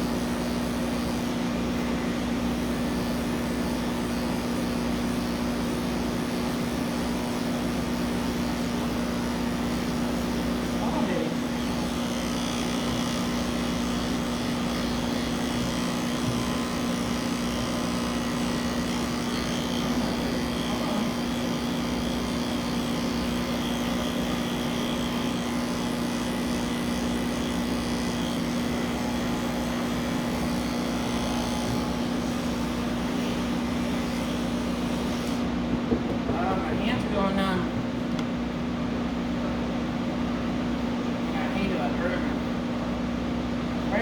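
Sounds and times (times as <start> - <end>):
electric clippers humming: 0.0 - 43.0.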